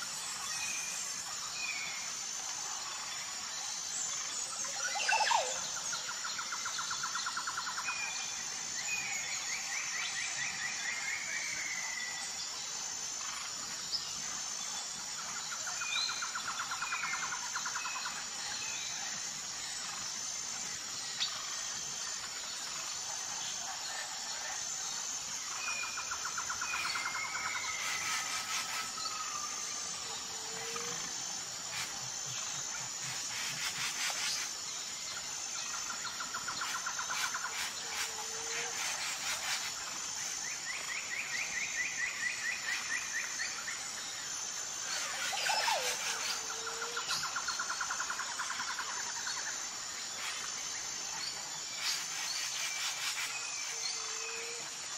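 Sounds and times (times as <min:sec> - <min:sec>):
crickets chirring: 0:00.0 - 0:54.9.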